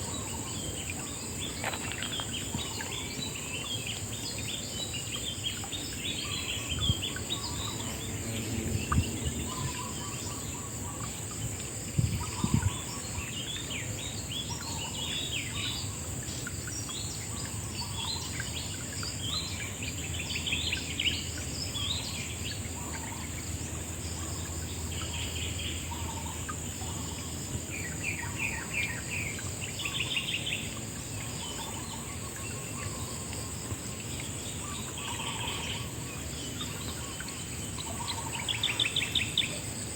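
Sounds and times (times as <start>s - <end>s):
birds chirping and trilling: 0.0s - 39.9s
high insect drone: 0.0s - 39.9s.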